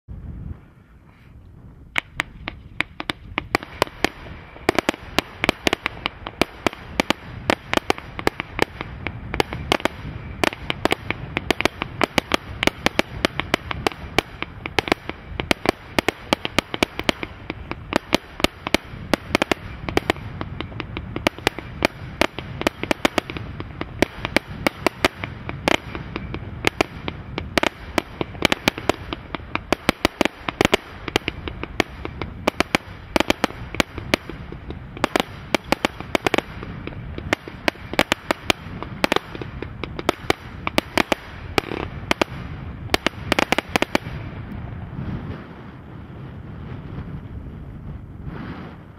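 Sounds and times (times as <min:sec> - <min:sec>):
firework barrage shots: 0:01.9 - 0:48.9.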